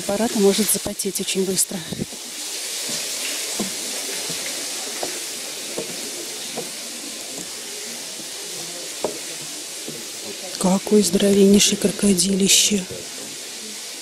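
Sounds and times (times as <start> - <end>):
running water hissing: 0.0 - 14.0.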